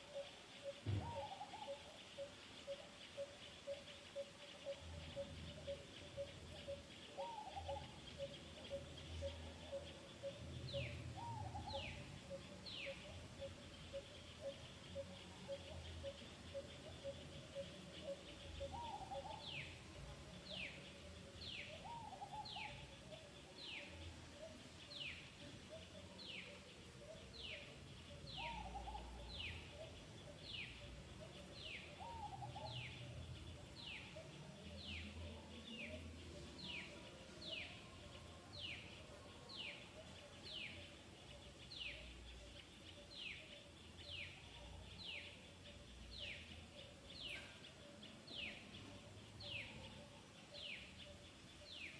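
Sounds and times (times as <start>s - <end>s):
faint outdoor background noise: 0.0s - 51.9s.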